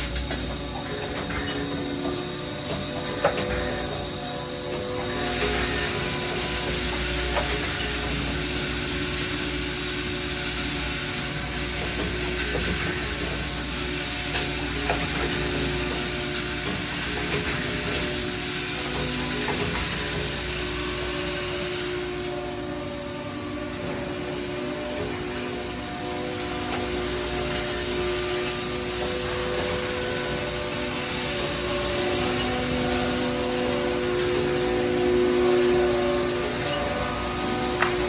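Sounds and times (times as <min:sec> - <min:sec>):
machine hiss: 0:00.0 - 0:38.0.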